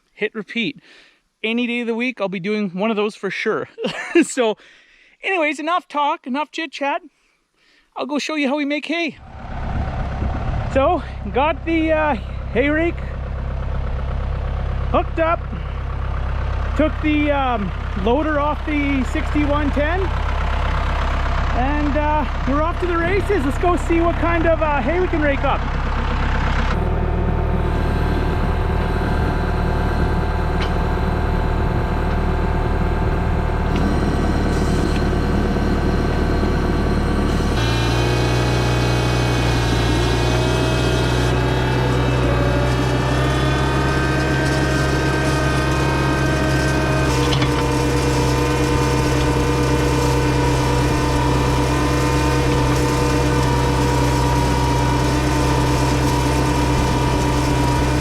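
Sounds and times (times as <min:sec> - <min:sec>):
tractor diesel engine running: 0:09.2 - 0:58.0.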